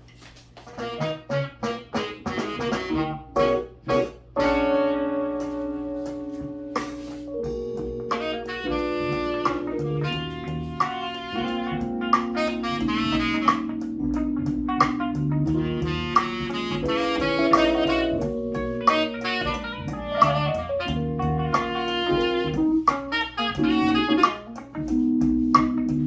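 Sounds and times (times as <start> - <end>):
jazz with saxophone guitar and drums: 0.2 - 26.0.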